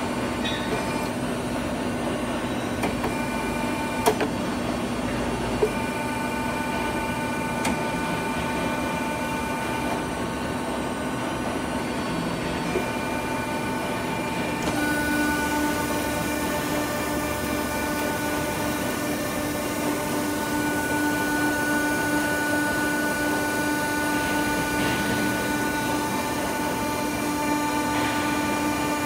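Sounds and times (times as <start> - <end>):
hydraulic pump hum: 0.0 - 29.0
machine whining tone: 0.0 - 29.0.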